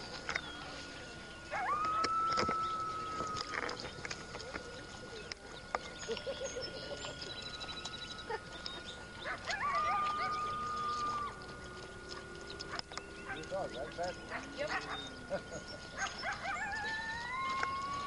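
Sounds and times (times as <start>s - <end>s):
coyotes howling: 0.3s - 18.0s.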